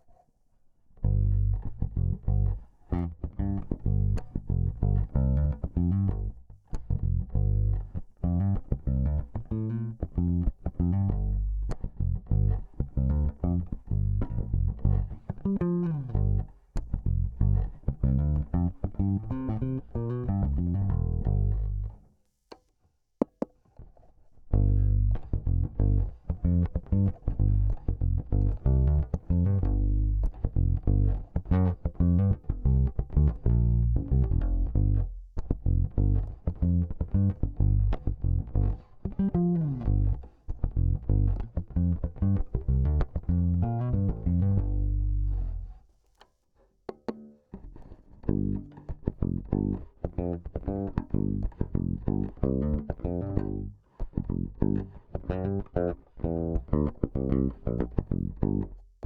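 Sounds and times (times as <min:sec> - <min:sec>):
electric bass plucked notes: 0:01.0 - 0:22.0, 0:24.5 - 0:45.8, 0:46.9 - 0:59.0.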